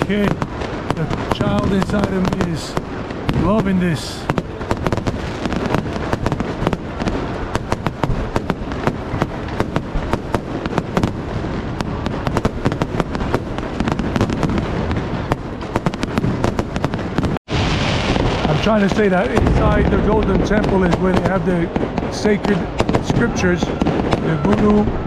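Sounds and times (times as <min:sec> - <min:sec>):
fireworks cracks and bangs: 0:00.0 - 0:25.0.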